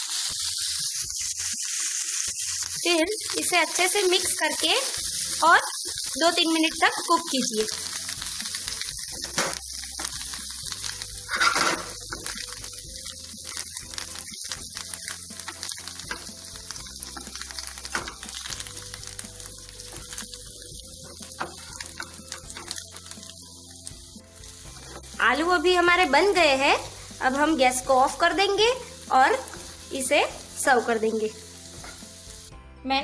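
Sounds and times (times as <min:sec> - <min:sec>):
potatoes sizzling in a pan: 0:00.0 - 0:32.6.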